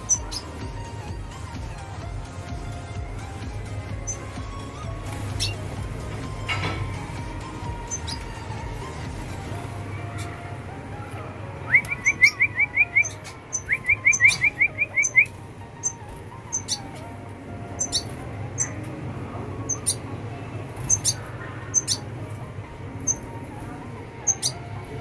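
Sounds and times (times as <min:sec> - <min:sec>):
bird repeated note runs: 0:00.0 - 0:06.6, 0:07.2 - 0:18.9, 0:19.5 - 0:24.8
birds chirping: 0:00.0 - 0:25.0.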